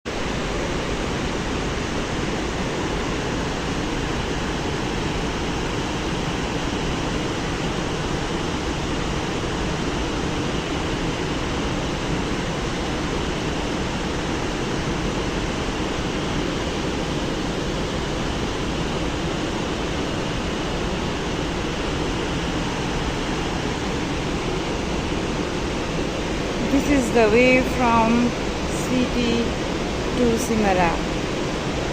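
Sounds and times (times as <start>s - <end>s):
fast river rushing: 0.1s - 31.9s.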